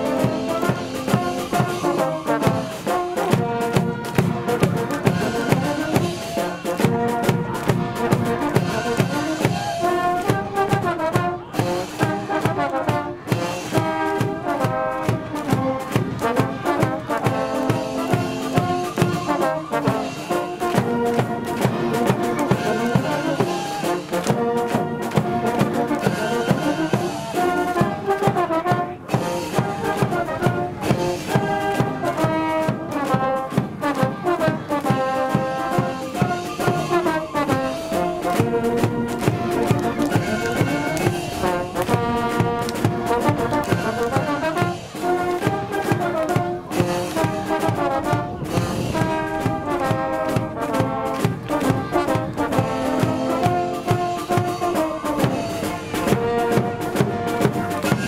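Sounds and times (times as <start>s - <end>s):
brass melody: 0.0s - 58.0s
driving drum beat: 0.0s - 58.0s.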